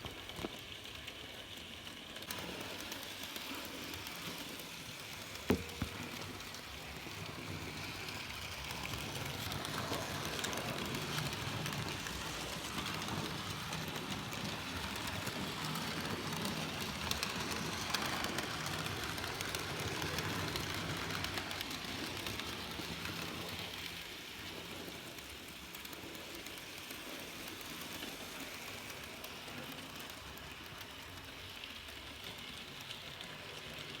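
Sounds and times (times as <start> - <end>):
model train motor humming: 0.0 - 34.0
wheels rattling on rails: 0.0 - 34.0.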